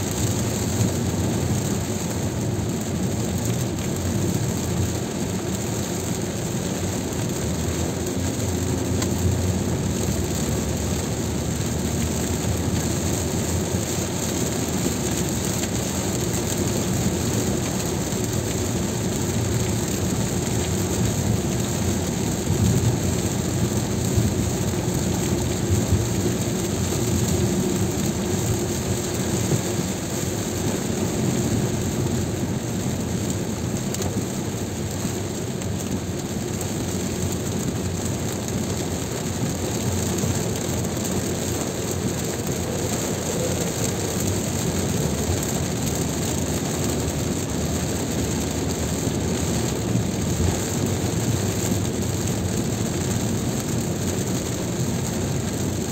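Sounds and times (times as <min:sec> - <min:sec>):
rain falling on car: 0:00.0 - 0:55.9
tyre noise on wet road: 0:00.0 - 0:55.9.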